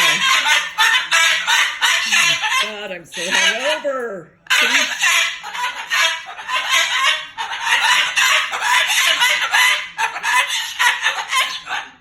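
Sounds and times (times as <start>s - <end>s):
cockatoo squawking and chattering: 0.0s - 12.0s.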